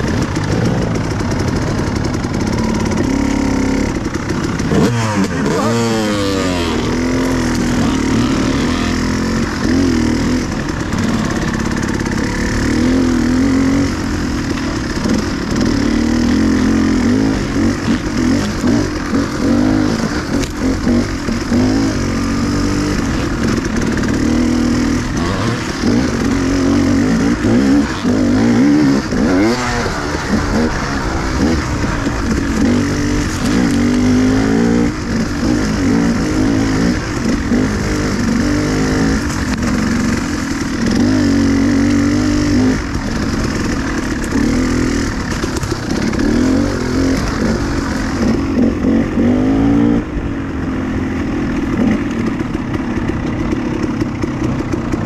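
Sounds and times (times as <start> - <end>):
dirt bike engine: 0.0 - 55.0.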